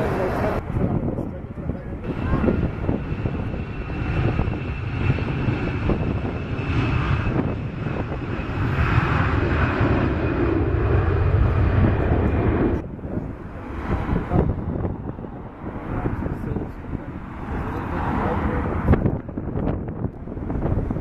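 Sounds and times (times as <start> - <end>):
jet engines rumbling and whining: 0.0 - 21.0.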